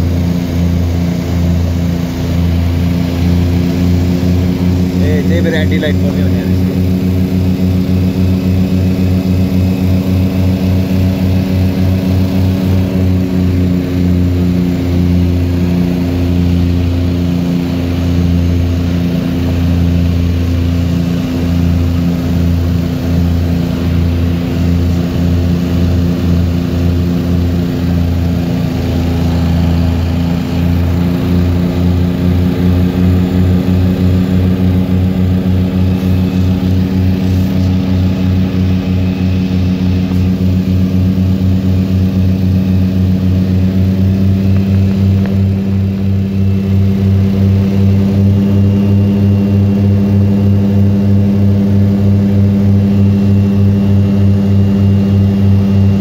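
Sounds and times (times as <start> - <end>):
propeller engines droning: 0.0 - 56.0.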